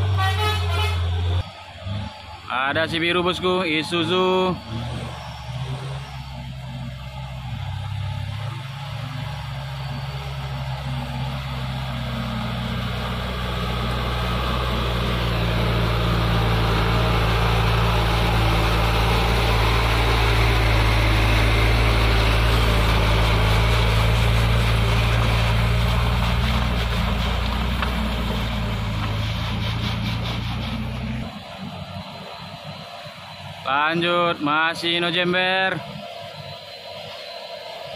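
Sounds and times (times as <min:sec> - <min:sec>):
truck diesel engine straining: 0:00.0 - 0:37.9.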